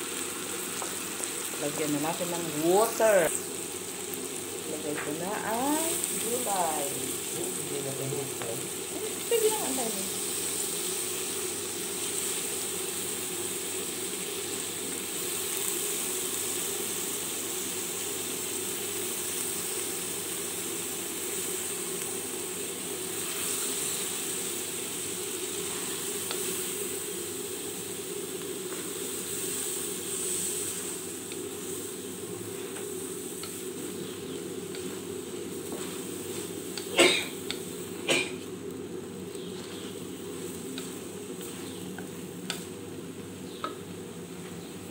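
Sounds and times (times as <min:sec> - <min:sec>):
food sizzling in a wok: 0:00.0 - 0:44.9.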